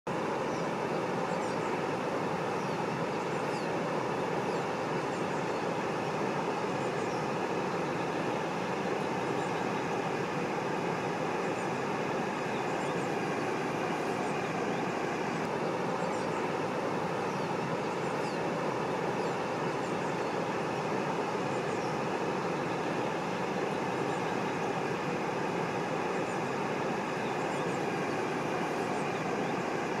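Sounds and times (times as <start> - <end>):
waterfall roaring: 5.6 - 30.0.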